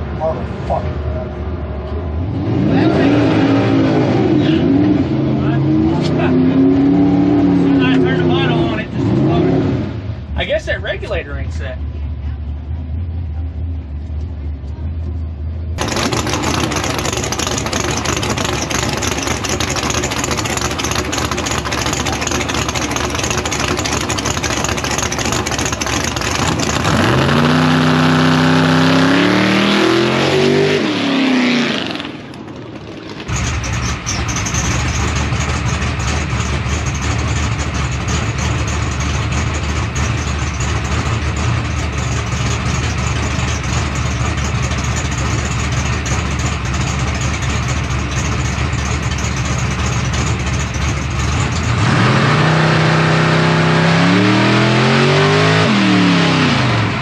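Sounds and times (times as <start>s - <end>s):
car engine revving: 0.0s - 15.1s, 15.7s - 57.0s.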